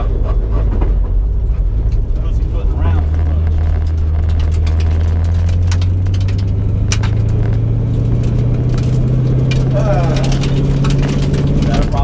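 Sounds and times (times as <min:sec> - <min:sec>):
car engine at low rpm: 0:00.0 - 0:12.0.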